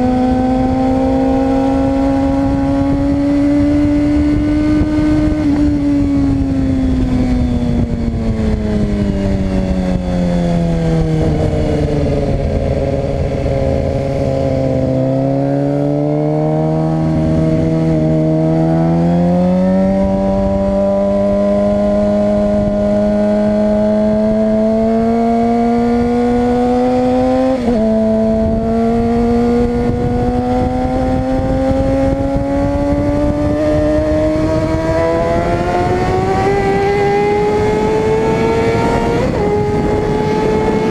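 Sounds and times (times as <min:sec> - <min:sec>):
sport bike engine revving: 0:00.0 - 0:07.9, 0:10.2 - 0:40.9.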